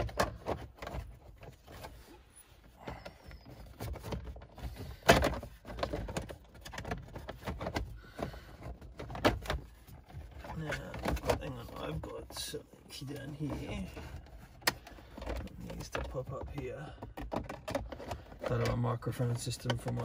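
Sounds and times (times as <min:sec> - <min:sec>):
hard plastic clicks and knocks: 0:00.0 - 0:12.4, 0:13.2 - 0:20.0.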